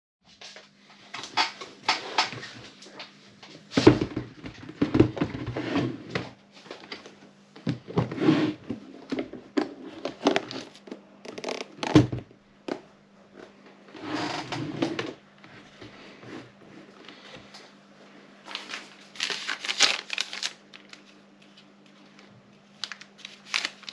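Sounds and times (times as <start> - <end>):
faint steady hum: 0.3 - 23.9.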